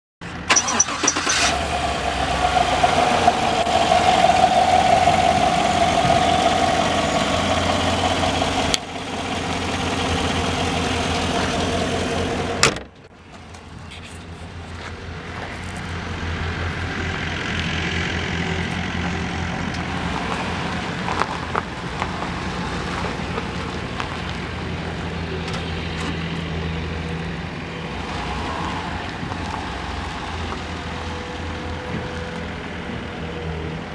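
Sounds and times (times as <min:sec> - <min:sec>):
pickup engine starting and running: 0:00.2 - 0:33.9.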